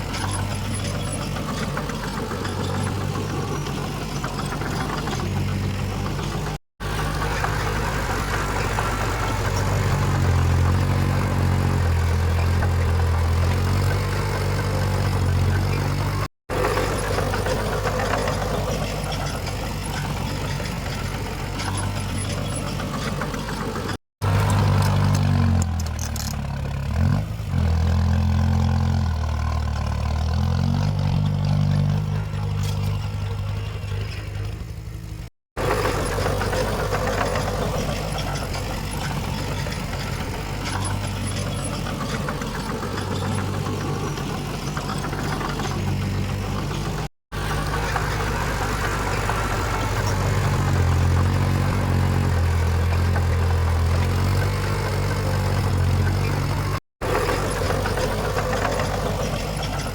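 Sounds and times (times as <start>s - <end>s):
heavy diesel engines under load: 0.0s - 59.9s.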